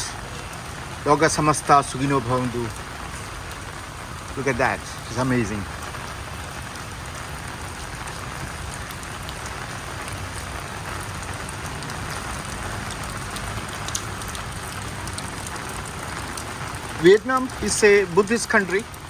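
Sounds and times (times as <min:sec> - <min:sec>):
heavy rain on umbrella: 0:00.0 - 0:19.0
sharp raindrops ticking: 0:00.0 - 0:19.0.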